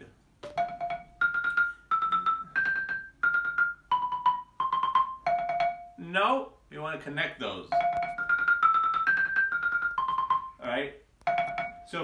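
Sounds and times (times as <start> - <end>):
xylophone played with mallets: 0.4 - 6.1, 7.7 - 12.0.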